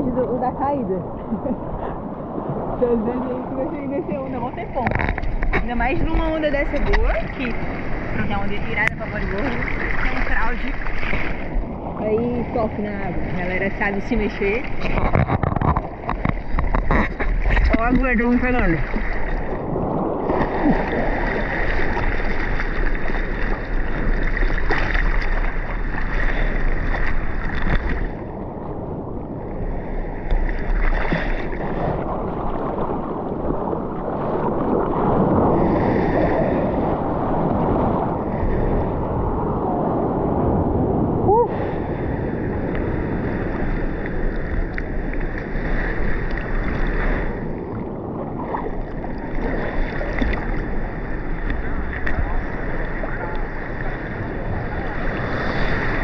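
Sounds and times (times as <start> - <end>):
seawater sloshing and splashing: 1.0 - 39.6, 42.6 - 56.0.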